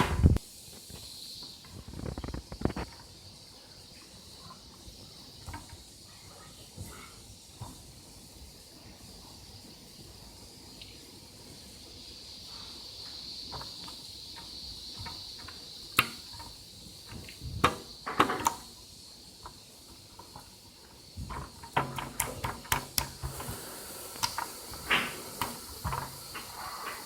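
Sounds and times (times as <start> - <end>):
faint high hiss: 0.0 - 27.0.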